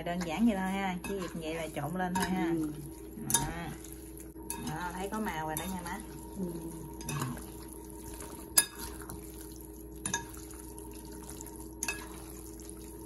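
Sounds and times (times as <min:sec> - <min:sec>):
faint hum: 0:00.0 - 0:13.0
utensils tossing meat in glass bowl: 0:00.0 - 0:13.0.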